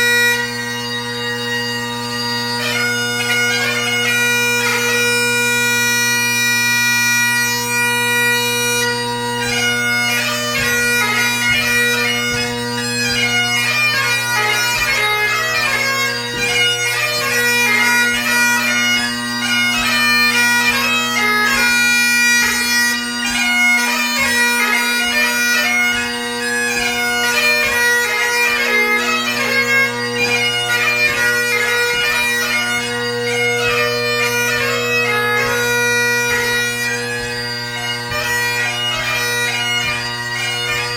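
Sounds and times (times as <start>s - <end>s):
bagpipe chanter melody: 0.0s - 40.9s
bagpipe drones: 0.0s - 40.9s.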